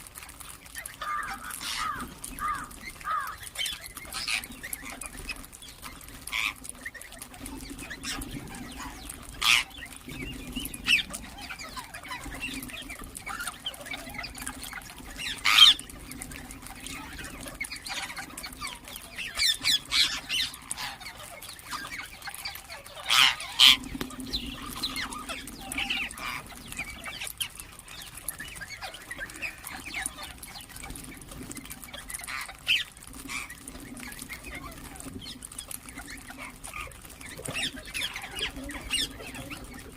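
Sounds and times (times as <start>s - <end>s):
parakeets squawking: 0.2s - 39.9s.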